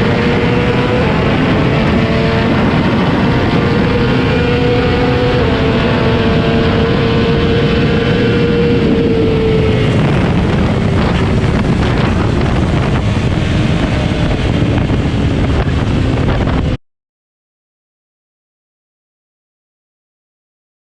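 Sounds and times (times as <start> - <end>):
dense rushing noise: 0.0 - 16.8
motorcycle engine running: 0.0 - 16.8.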